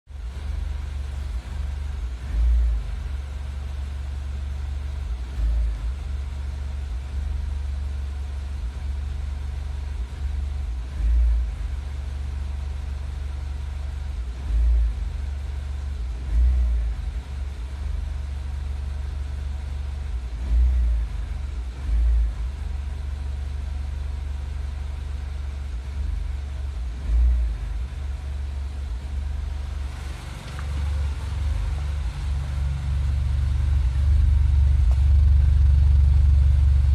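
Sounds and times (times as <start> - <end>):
car engine idling roughly: 0.1 - 36.9.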